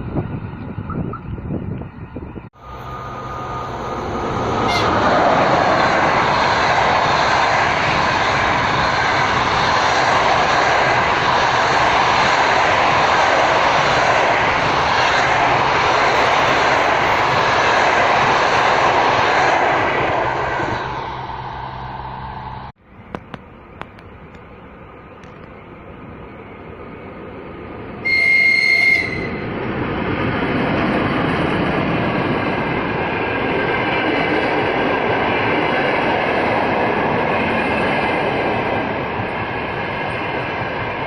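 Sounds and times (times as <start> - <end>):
train passing at speed: 0.0 - 41.0.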